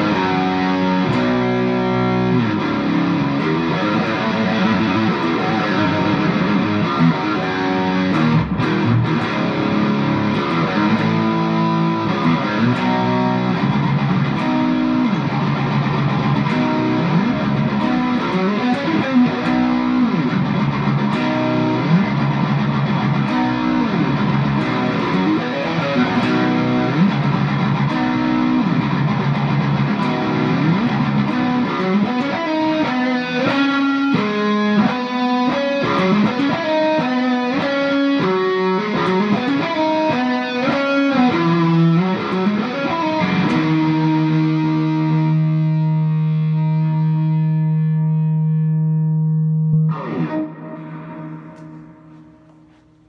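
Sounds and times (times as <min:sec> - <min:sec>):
distorted electric guitar riff: 0:00.0 - 0:53.0.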